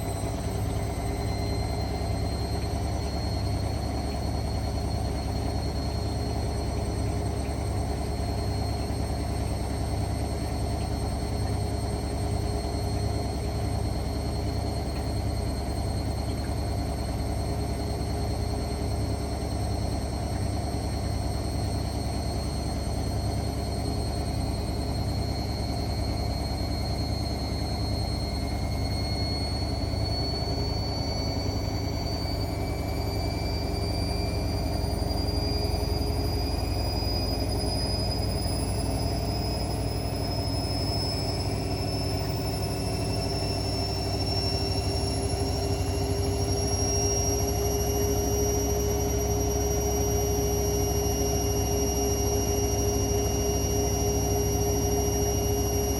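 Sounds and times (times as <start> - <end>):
washing machine spinning up: 0.0 - 55.9.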